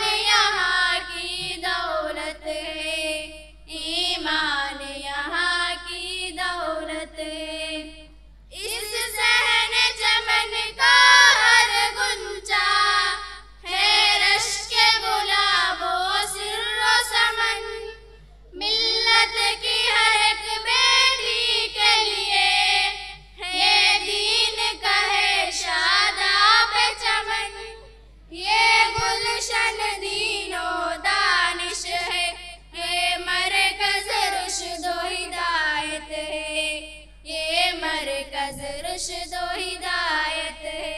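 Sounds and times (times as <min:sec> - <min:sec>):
girls singing into a microphone: 0:00.0 - 0:40.9.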